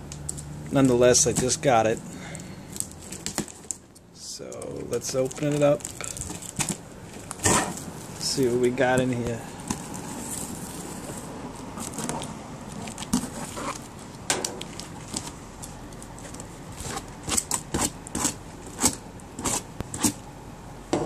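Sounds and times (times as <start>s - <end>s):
cardboard and tape crackling: 0.0s - 20.2s.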